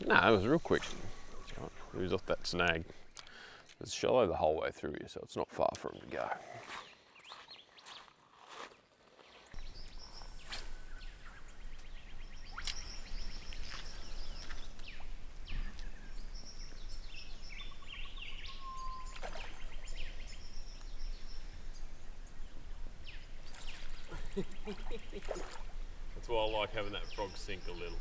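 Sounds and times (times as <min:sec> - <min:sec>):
birds chirping and trilling: 0:00.0 - 0:08.2, 0:09.2 - 0:28.0
low outdoor background: 0:00.0 - 0:28.0.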